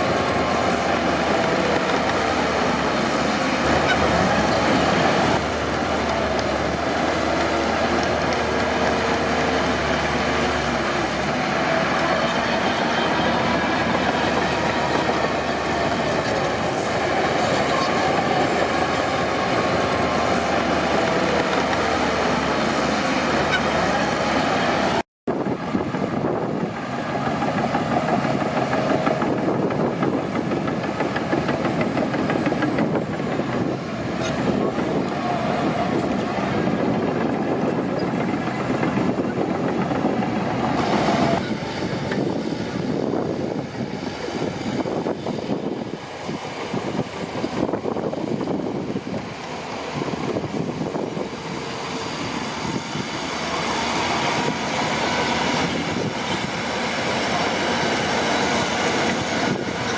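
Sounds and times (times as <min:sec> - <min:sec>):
bulldozer diesel engine running: 0:00.0 - 0:59.9
clatter of tracks: 0:00.0 - 0:59.9.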